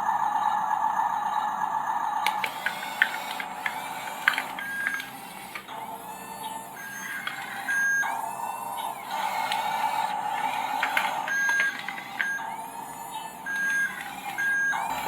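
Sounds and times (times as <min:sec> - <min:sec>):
electronic beeping tones: 0:01.8 - 0:15.0
toy motor and gears whirring: 0:02.3 - 0:15.0.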